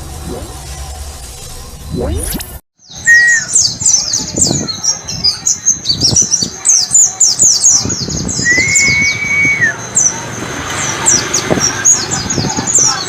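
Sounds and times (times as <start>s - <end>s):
bird chirping song: 1.9s - 13.0s.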